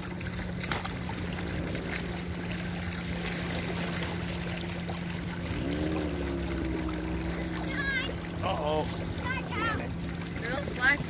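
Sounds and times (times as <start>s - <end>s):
small waves lapping on rocks: 0.0s - 11.0s.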